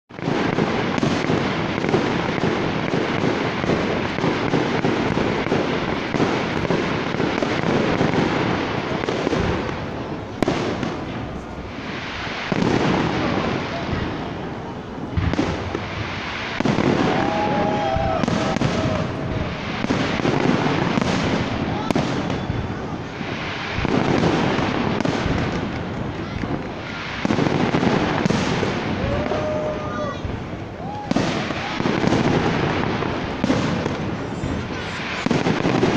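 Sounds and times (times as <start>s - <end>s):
fireworks crackling and banging: 0.1s - 35.9s.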